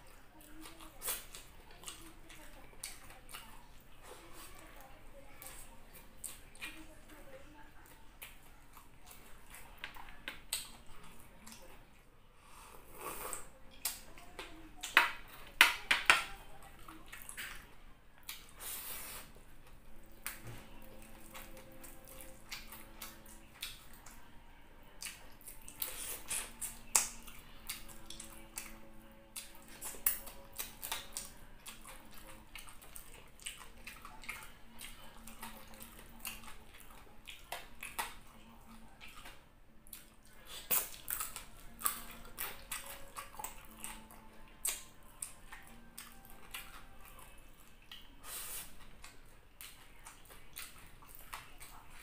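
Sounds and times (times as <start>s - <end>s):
wet chewing and lip smacking: 0.0s - 52.0s.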